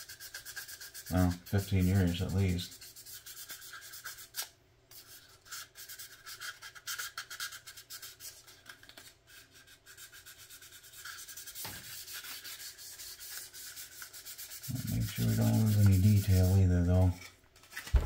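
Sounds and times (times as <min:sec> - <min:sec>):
sandpaper scratching on plastic: 0:00.0 - 0:17.8.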